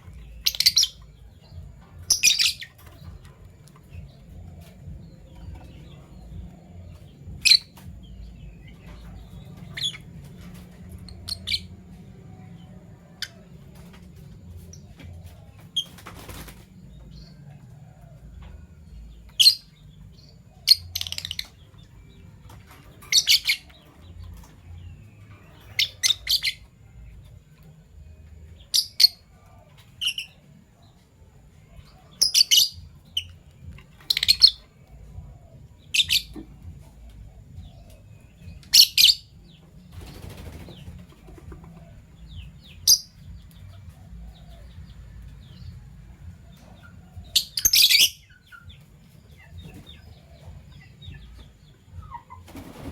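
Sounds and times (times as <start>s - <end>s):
faint low rumble: 0.0s - 52.9s.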